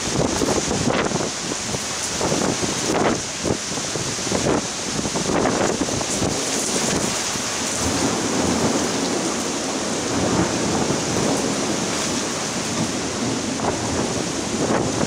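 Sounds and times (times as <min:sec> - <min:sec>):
thunder rumbling: 0:00.0 - 0:15.0
torrential rain: 0:00.0 - 0:15.0.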